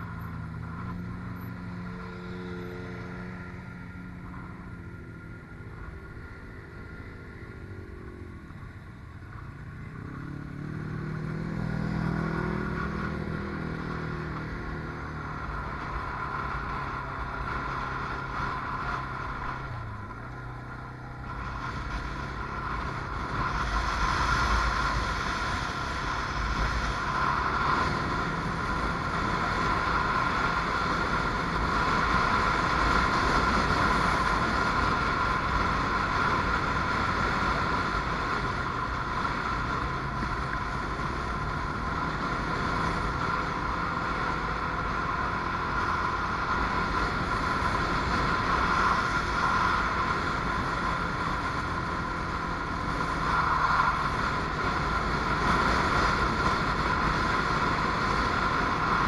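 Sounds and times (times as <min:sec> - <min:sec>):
atv engine running hard: 0:00.0 - 0:59.0
wind: 0:00.0 - 0:59.0.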